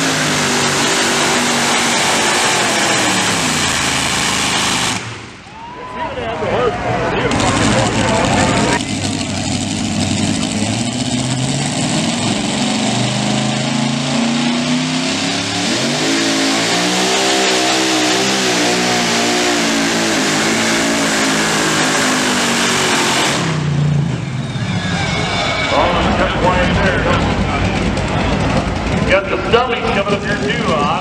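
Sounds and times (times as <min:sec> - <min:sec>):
truck engine at full throttle: 0:00.0 - 0:05.5, 0:06.1 - 0:31.0.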